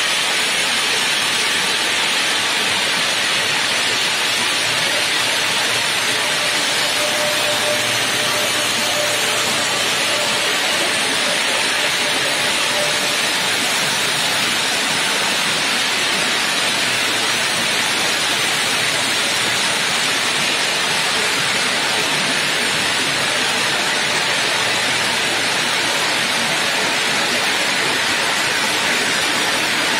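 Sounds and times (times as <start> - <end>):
stone-cutting saws hissing: 0.0 - 29.9.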